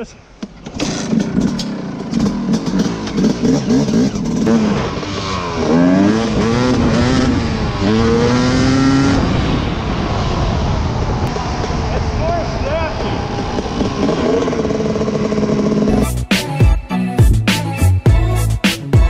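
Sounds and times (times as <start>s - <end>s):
dirt bike engine accelerating: 0.5s - 16.5s.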